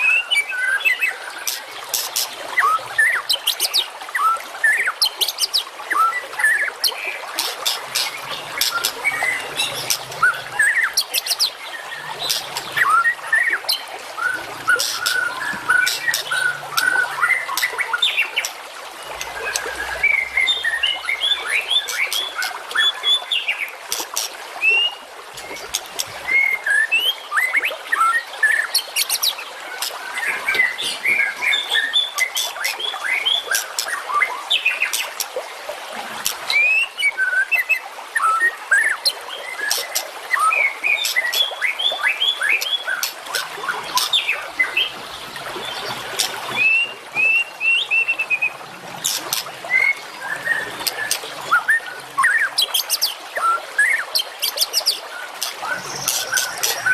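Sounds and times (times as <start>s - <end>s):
songbirds chirping rapidly: 4.6s - 35.4s, 36.0s - 56.9s.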